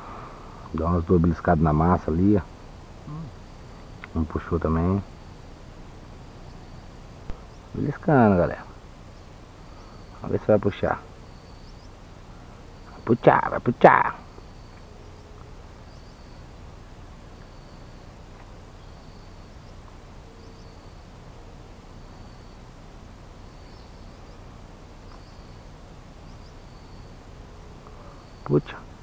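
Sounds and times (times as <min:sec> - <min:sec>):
outdoor hush: 0:00.0 - 0:29.0.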